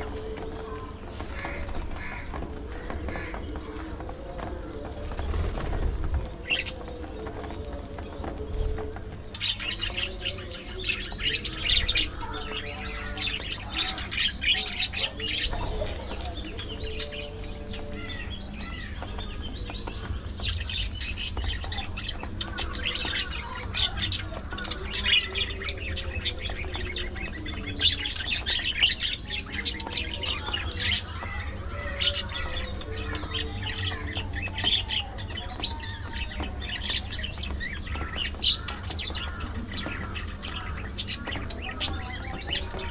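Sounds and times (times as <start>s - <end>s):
budgerigars chirping and chattering: 0.0s - 5.7s, 6.4s - 8.4s, 9.4s - 42.9s.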